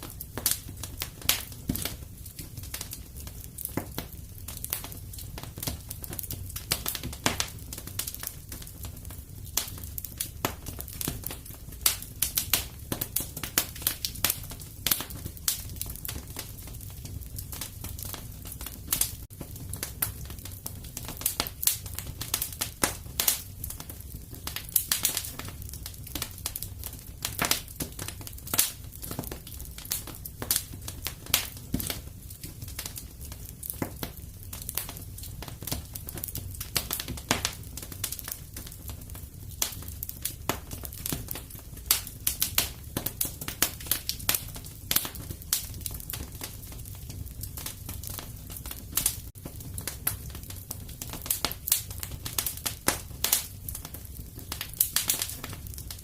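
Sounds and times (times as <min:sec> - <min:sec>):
flames rumbling: 0:00.0 - 0:56.0
wood fire snapping: 0:00.0 - 0:56.0.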